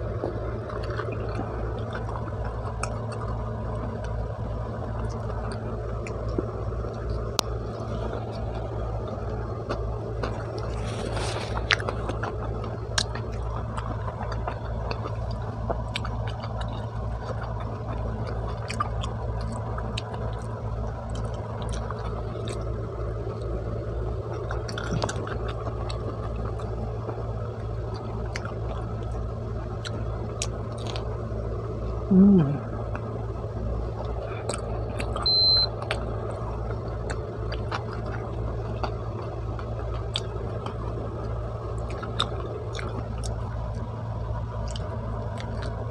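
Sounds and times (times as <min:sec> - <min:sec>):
chewing with wet mouth clicks: 0:00.0 - 0:04.2, 0:04.8 - 0:23.6, 0:24.2 - 0:31.1, 0:34.0 - 0:45.9
steady low hum: 0:00.0 - 0:45.9.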